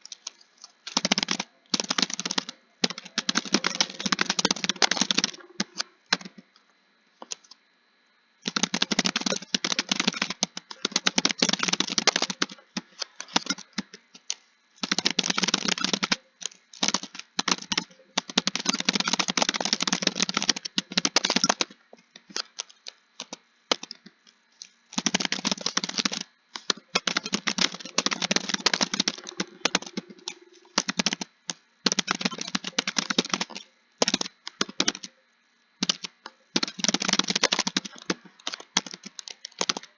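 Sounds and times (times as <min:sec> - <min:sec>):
keyboard typing: 0:00.0 - 0:06.4, 0:08.4 - 0:24.0, 0:24.9 - 0:35.1, 0:35.8 - 0:39.9.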